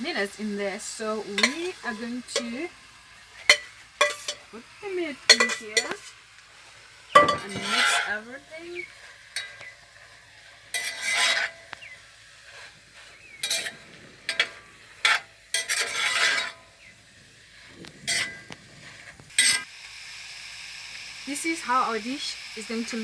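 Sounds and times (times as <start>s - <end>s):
utensil scraping in a wok: 0.0s - 23.0s.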